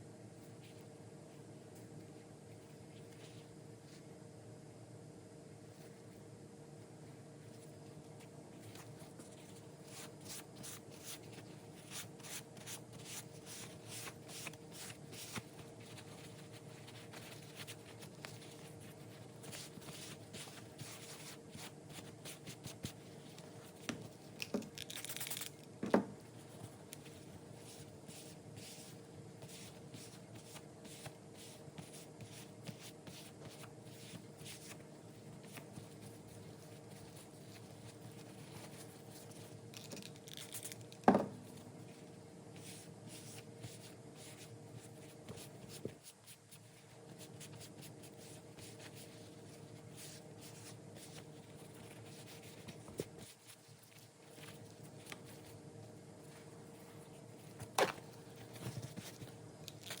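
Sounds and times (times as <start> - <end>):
faint steady hum: 0.0 - 60.0.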